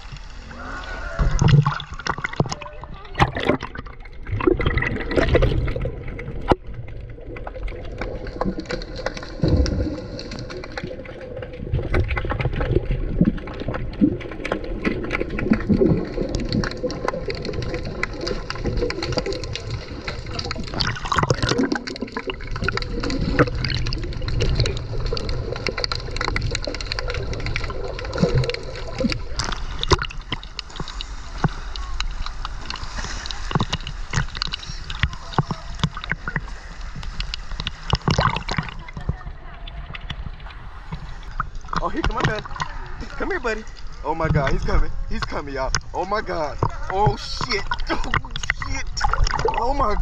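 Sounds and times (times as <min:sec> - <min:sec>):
underwater sloshing and bubbling: 0:00.0 - 0:50.0.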